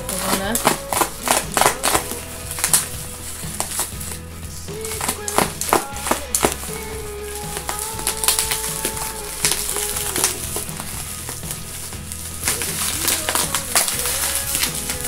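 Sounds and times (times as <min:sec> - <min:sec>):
background music: 0:00.0 - 0:15.0
packing material crackling: 0:00.0 - 0:15.0.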